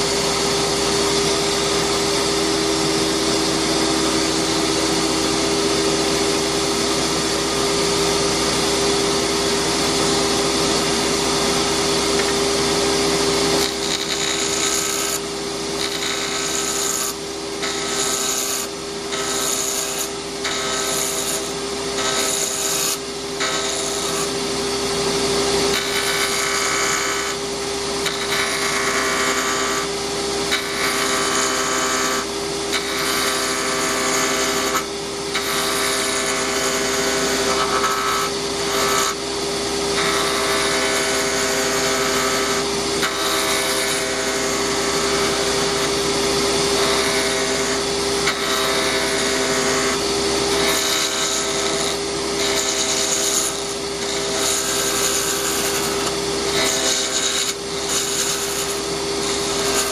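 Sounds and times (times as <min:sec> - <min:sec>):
wood lathe motor hum: 0:00.0 - 0:59.9
rasping scraping on spinning wood: 0:10.6 - 0:27.4, 0:28.0 - 0:39.3, 0:39.9 - 0:59.9.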